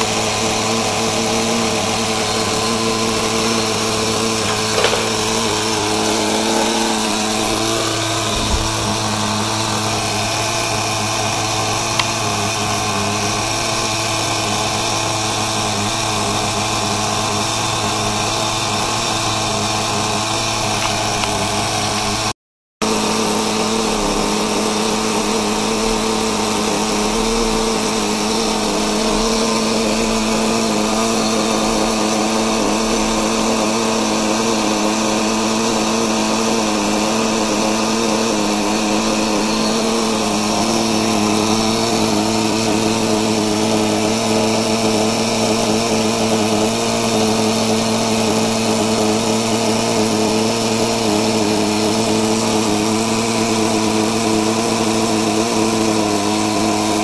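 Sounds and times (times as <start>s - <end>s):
small model engine running: 0.0s - 57.0s.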